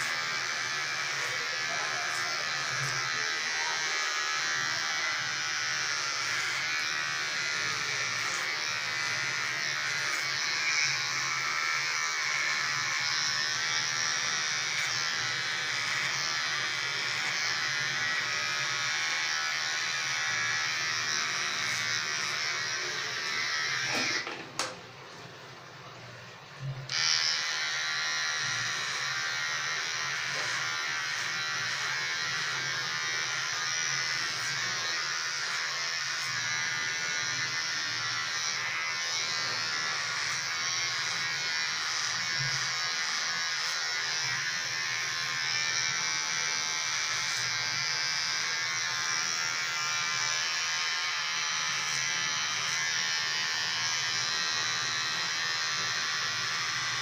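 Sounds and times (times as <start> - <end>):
electric hair clipper buzzing: 0.0 - 24.8, 26.6 - 57.0.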